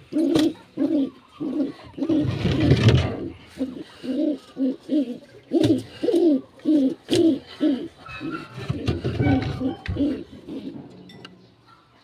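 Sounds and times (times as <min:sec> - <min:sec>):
pigeon cooing: 0:00.0 - 0:11.8.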